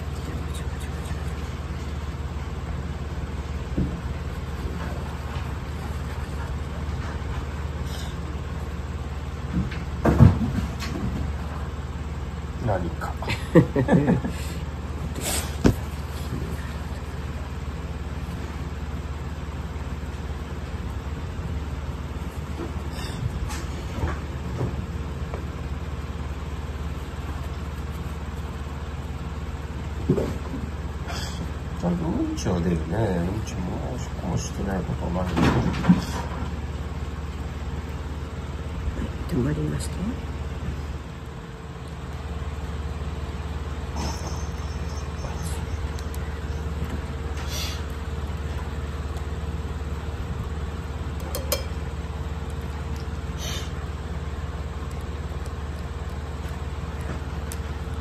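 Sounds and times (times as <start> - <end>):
appliance motor hum: 0.0 - 58.0.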